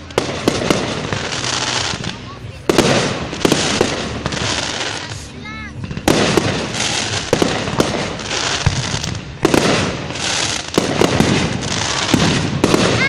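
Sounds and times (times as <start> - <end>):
crackling hiss: 0.0 - 13.0
fireworks bangs: 0.0 - 13.0.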